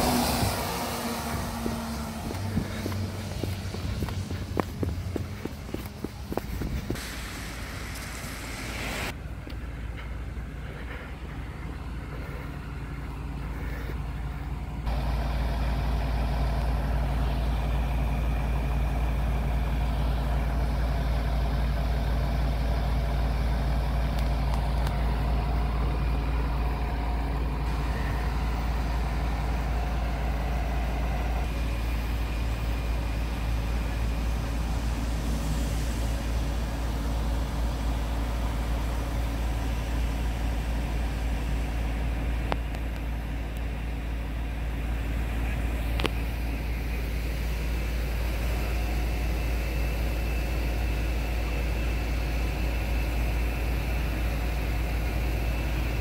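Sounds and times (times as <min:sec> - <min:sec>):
diesel engines idling: 0:00.0 - 0:56.0.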